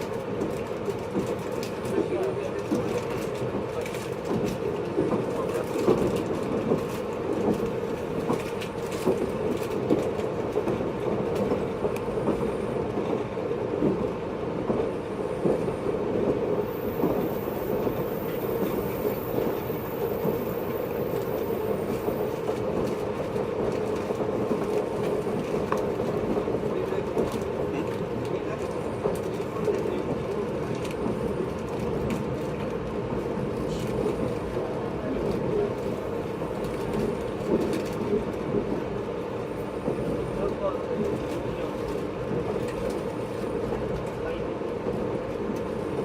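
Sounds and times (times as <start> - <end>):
train running rumble: 0.0 - 46.0.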